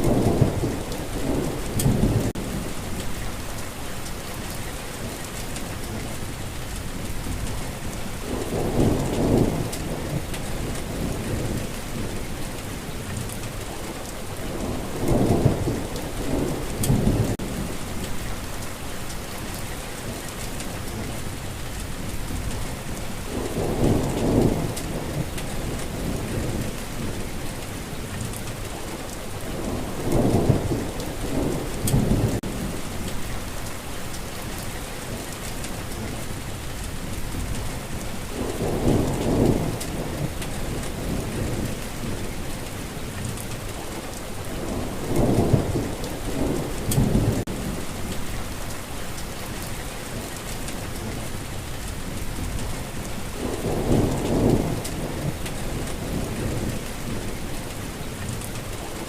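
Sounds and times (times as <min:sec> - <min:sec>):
low rumbles of thunder: 0:00.0 - 0:04.6, 0:05.3 - 0:18.6, 0:19.3 - 0:59.0
steady rain: 0:00.0 - 0:59.0.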